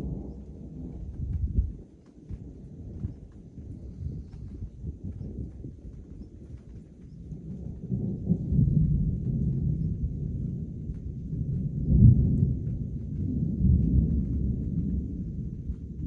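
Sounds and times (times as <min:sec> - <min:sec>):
thunder rumbling: 0:00.0 - 0:16.0.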